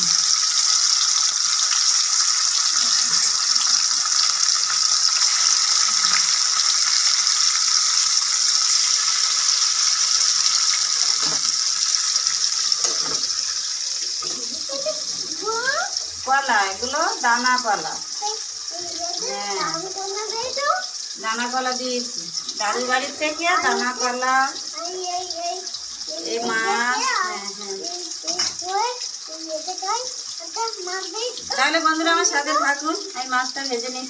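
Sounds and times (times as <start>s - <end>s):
fish frying in hot oil: 0.0s - 34.0s.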